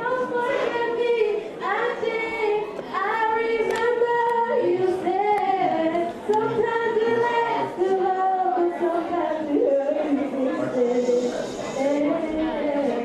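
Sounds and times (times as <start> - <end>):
girls singing unaccompanied: 0.0 - 13.0.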